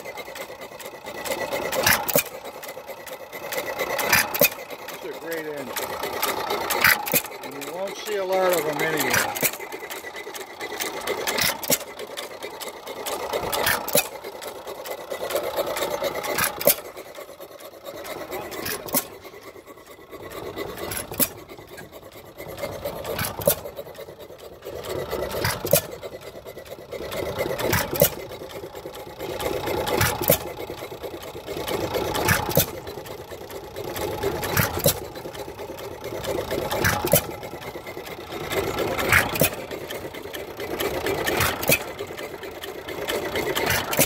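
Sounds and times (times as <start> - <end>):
mechanical clatter: 0.0 - 44.0.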